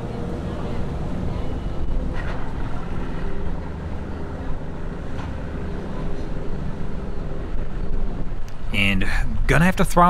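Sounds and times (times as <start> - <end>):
motorboat engine droning: 0.0 - 9.8.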